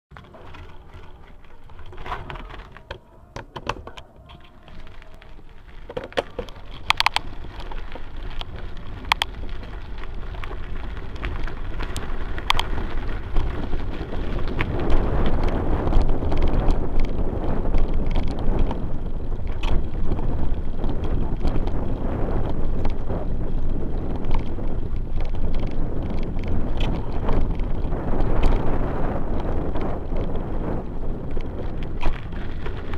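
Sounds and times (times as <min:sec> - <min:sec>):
bicycle clicks and rattles: 0:00.1 - 0:32.9
bicycle tyres rolling on dirt: 0:00.1 - 0:32.9
wind on microphone: 0:00.2 - 0:32.9.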